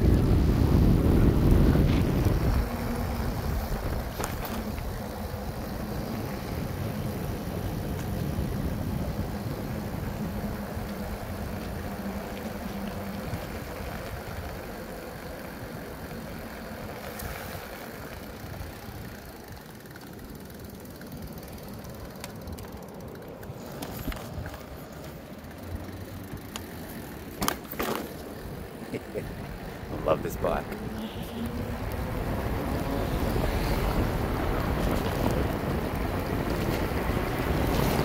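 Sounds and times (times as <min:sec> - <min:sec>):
wind and tyres rumbling: 0:00.0 - 0:38.0.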